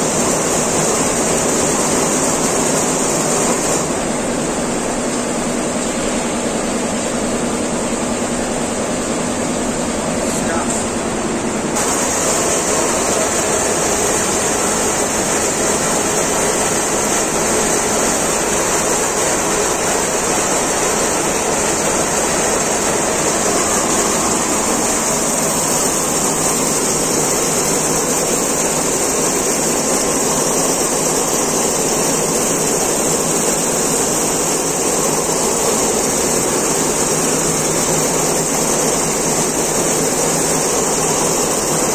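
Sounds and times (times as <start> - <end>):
quilting machine stitching: 0.0 - 4.0, 11.8 - 41.9.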